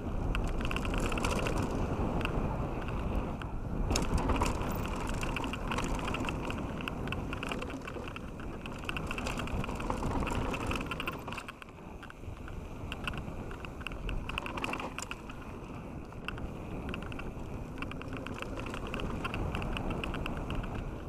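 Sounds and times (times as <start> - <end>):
bike rattling clicks: 0.0 - 21.0
bike tyres rumbling over gravel: 0.0 - 21.0.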